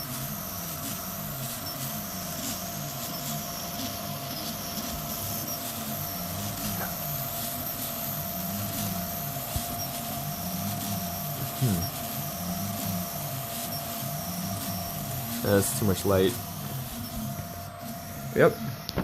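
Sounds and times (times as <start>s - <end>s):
steady hum: 0.0s - 19.0s
stepper motors whining: 0.0s - 19.0s.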